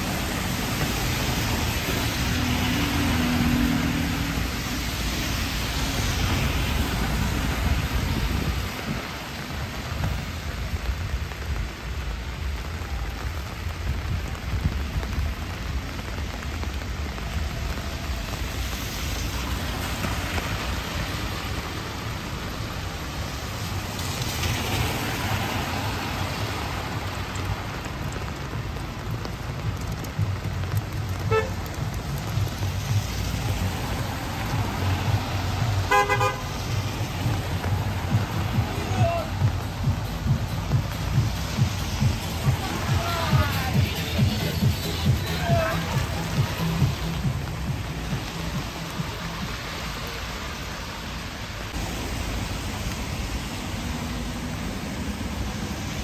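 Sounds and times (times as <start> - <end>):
cars passing on wet road: 0.0 - 56.0
heavy rain falling: 0.0 - 56.0.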